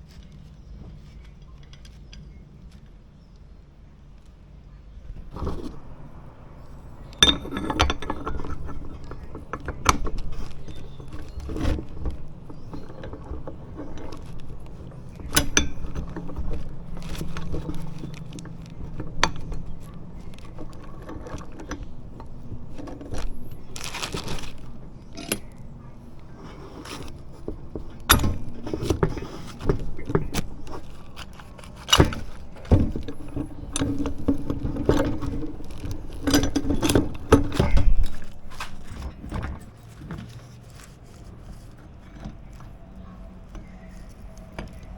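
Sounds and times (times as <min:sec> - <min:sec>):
metal tools clinking: 0:05.3 - 0:44.9.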